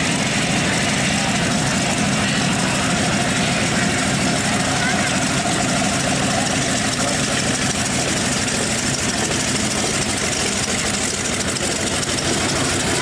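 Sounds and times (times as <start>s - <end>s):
aircraft engine running: 0.0s - 13.0s.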